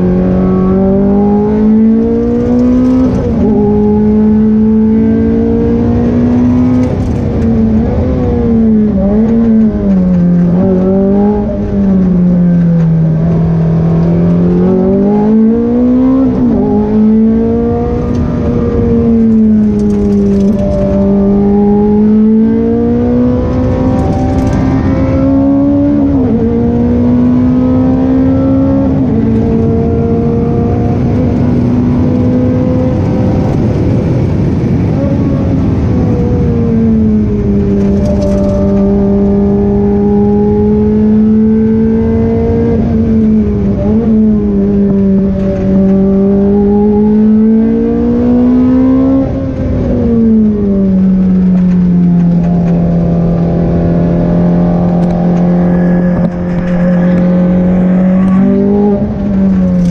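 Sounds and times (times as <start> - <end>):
car engine from inside cockpit: 0.0 - 59.9
road and wind noise: 0.0 - 59.9.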